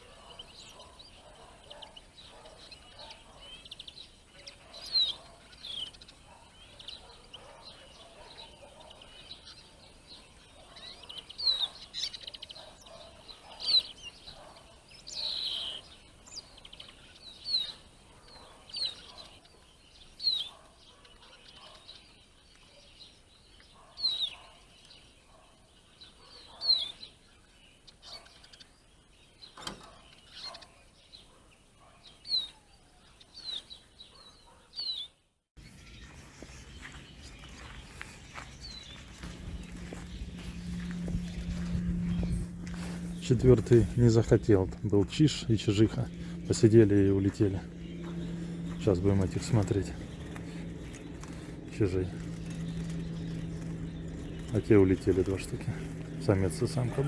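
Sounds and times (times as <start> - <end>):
faint background bird twitter: 0.0 - 57.0.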